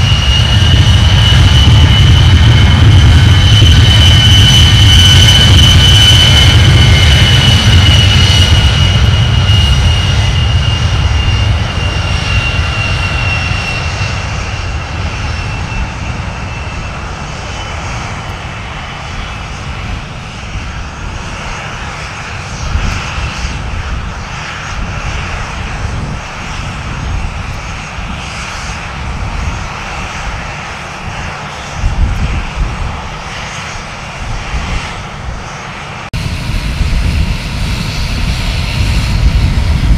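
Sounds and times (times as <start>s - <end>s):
distant jet noise: 0.0s - 39.9s
jet engines whining and roaring: 0.0s - 39.9s.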